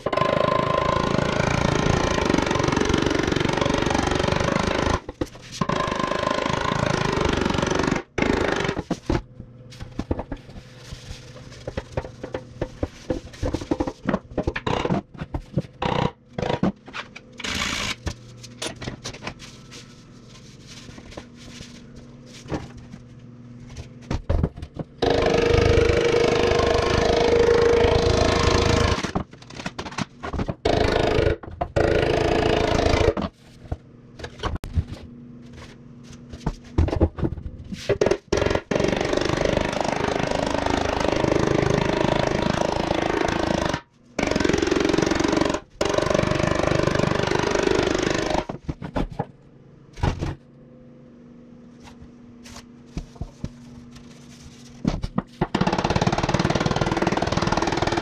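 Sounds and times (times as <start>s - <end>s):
steady hum: 0.1s - 58.0s.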